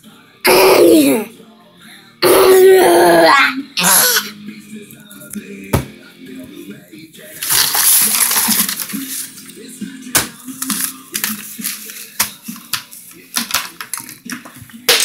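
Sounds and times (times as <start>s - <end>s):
faint music: 0.0s - 15.0s.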